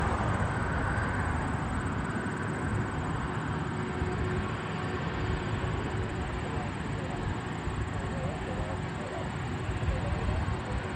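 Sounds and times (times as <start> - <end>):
jet engine rumble and hiss: 0.0 - 10.9.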